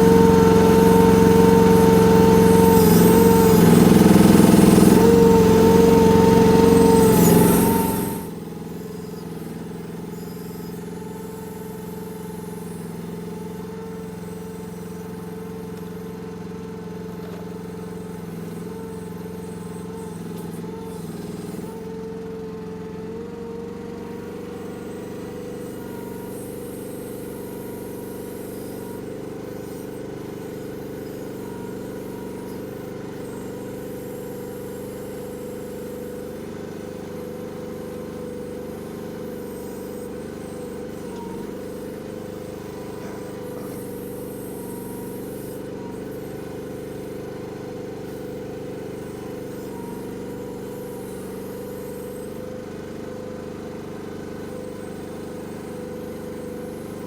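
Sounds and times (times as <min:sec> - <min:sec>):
excavator engine running: 0:00.0 - 0:53.8.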